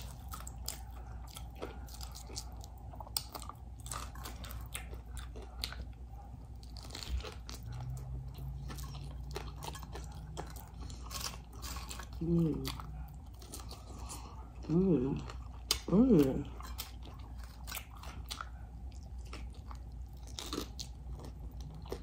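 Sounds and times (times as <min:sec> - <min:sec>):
crunching and chewing: 0:00.0 - 0:22.0
low steady hum: 0:00.0 - 0:22.0.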